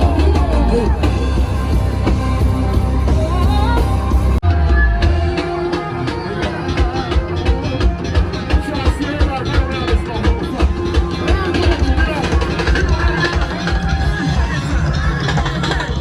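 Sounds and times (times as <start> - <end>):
go-go band music with singing: 0.0 - 16.0.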